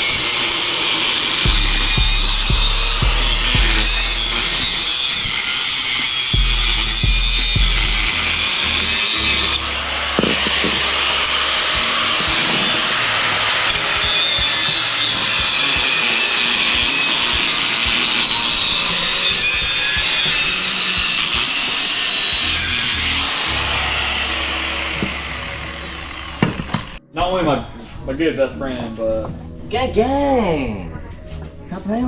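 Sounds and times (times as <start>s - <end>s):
power saw cutting metal: 0.0s - 27.0s
background music: 0.0s - 32.0s.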